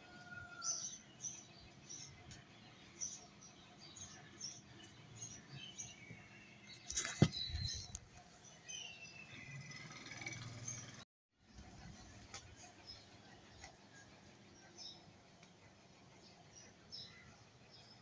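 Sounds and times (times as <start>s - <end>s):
birds chirping faintly: 0.1s - 18.0s.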